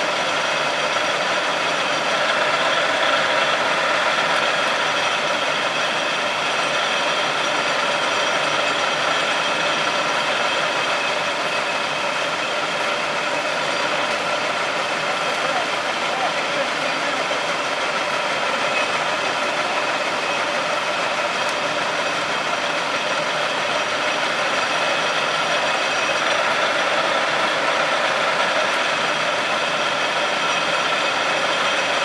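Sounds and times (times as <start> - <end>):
automatic screw machine running: 0.0 - 32.0.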